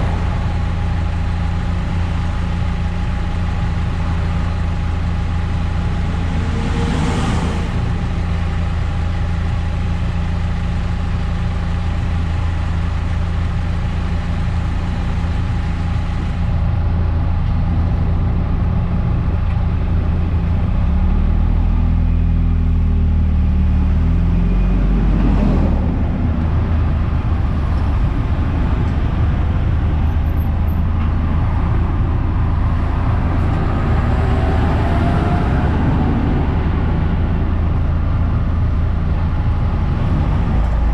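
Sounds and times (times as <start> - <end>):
car engine droning: 0.0 - 40.9
road and tyre noise: 0.0 - 40.9.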